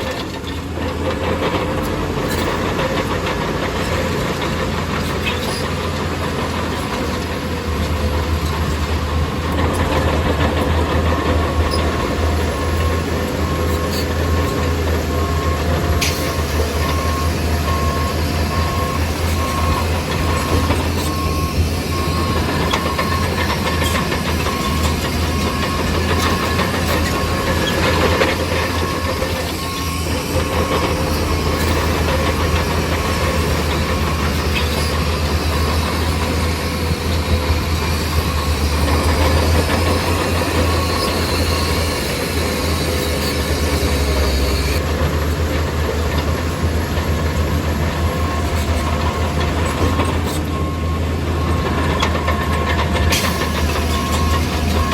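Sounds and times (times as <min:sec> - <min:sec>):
bulldozer diesel engine running: 0:00.0 - 0:54.9
reversing alarm beeping: 0:06.9 - 0:44.9, 0:46.6 - 0:54.9.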